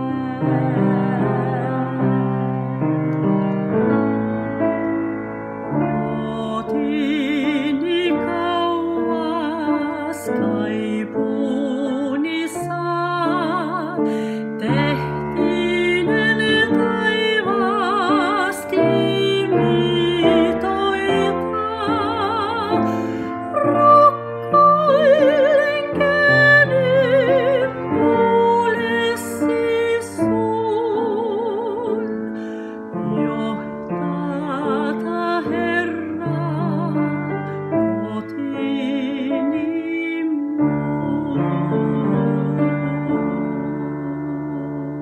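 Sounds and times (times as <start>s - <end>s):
woman singing operatically: 0.0s - 2.5s, 6.0s - 45.0s
piano chords: 0.0s - 45.0s.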